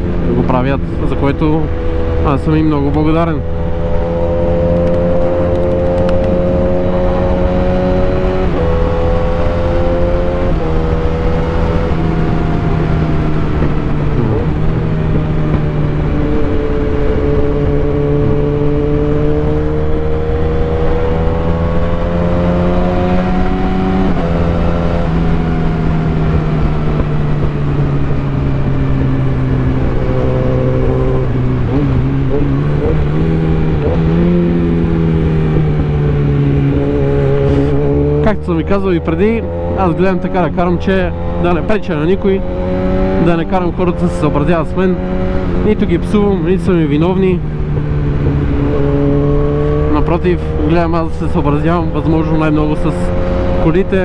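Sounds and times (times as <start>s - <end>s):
motorcycle shifting gears: 1.7s - 54.0s.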